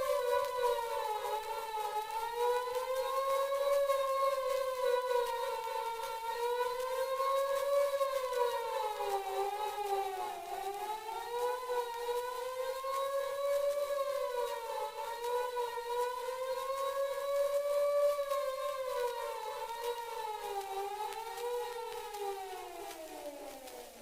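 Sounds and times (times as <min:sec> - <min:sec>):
mechanical fire siren wailing: 0:00.0 - 0:24.0.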